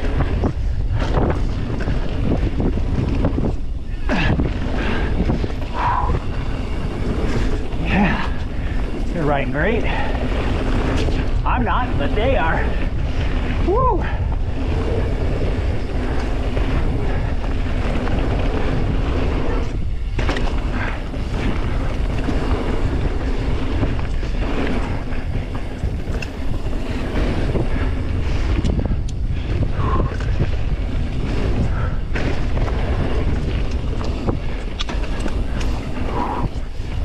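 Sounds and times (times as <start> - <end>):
bike knocks and rattles: 0.0 - 37.0
tyres rolling on dirt: 0.0 - 37.0
wind rushing over microphone: 0.0 - 37.0.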